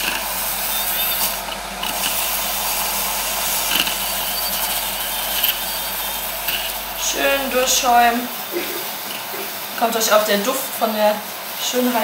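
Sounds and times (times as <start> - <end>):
electric milk frother running: 0.0 - 12.0.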